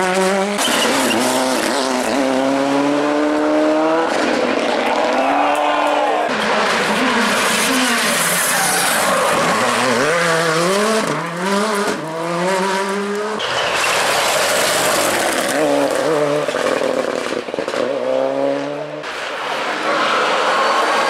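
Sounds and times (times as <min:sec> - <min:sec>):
rally car engine at high revs: 0:00.0 - 0:05.2, 0:06.3 - 0:21.0
rally car engine revving: 0:00.0 - 0:05.2, 0:06.3 - 0:21.0.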